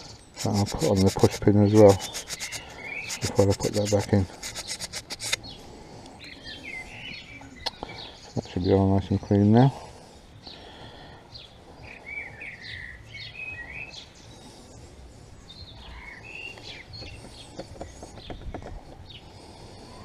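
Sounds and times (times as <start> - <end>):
small birds singing: 0.0 - 20.0.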